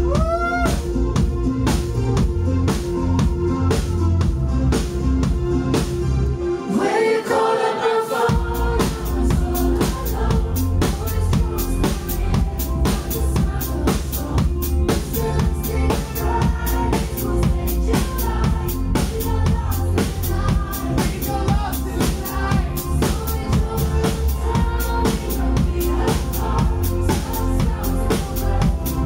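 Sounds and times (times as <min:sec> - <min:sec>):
drum kit beat: 0:00.0 - 0:06.2, 0:08.3 - 0:29.0
live pop band playing: 0:00.0 - 0:07.0, 0:08.2 - 0:29.0.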